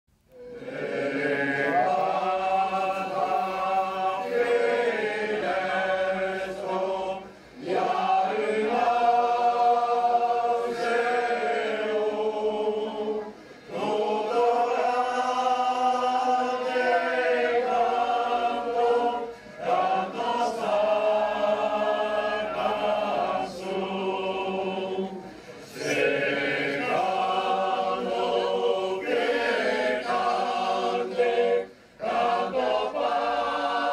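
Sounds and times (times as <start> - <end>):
choir singing sustained chords: 0.3 - 33.9.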